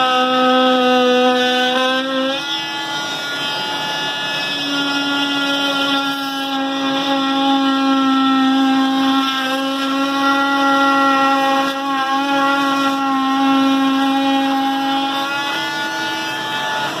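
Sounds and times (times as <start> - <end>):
oscillating multi-tool buzzing: 0.0 - 17.0.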